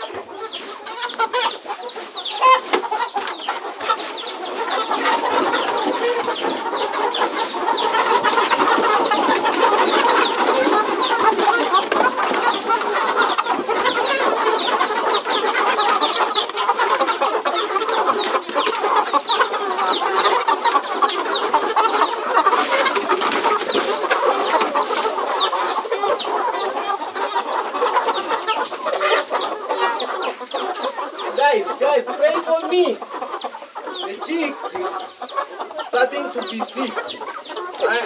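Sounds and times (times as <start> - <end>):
young chickens clucking and peeping: 0.0 - 38.0.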